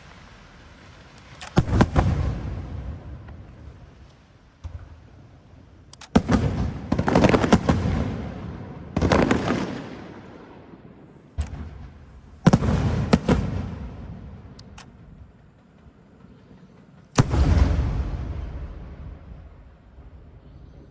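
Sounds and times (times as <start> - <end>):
fireworks bangs and crackling: 0.0 - 20.4.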